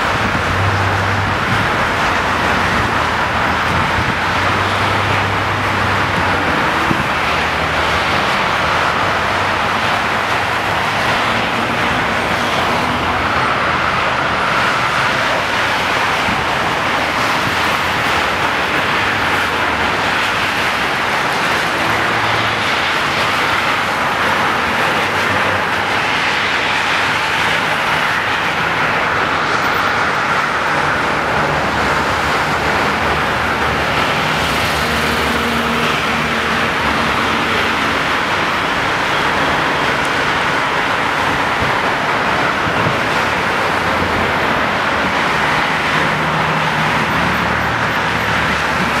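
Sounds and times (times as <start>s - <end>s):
highway traffic noise: 0.0s - 49.0s.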